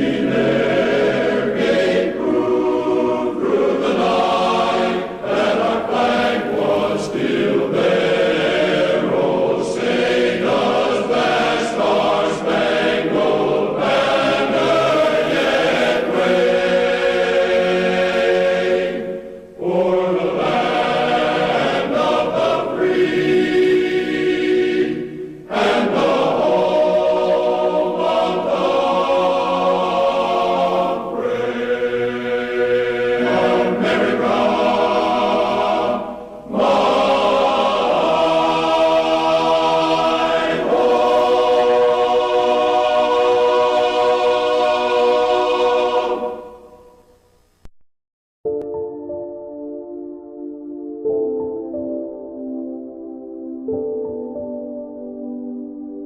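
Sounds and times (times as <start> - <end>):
choir singing sustained chords: 0.0 - 47.4.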